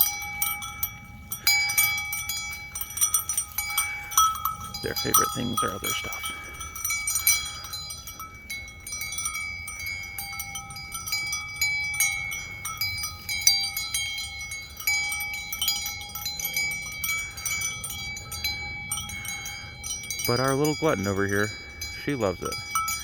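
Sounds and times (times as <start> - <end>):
metal chimes ringing: 0.0 - 23.0.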